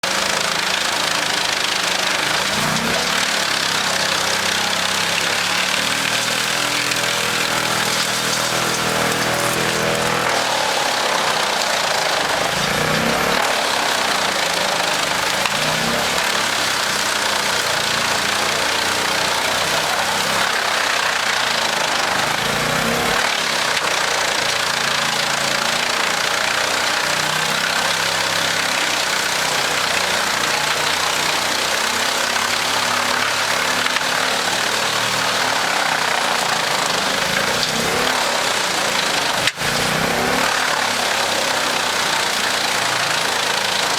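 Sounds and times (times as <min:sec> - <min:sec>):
wood chipper engine drone: 0:00.0 - 0:43.9.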